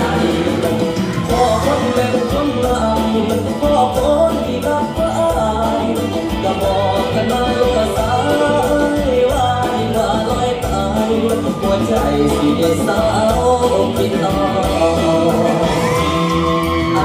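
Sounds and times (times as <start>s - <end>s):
song over loudspeakers: 0.0s - 17.0s.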